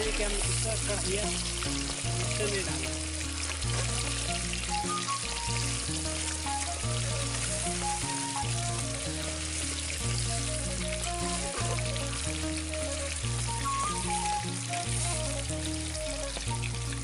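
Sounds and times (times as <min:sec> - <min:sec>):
background music with bass: 0:00.0 - 0:17.0
chicken sizzling in hot oil: 0:00.0 - 0:17.0.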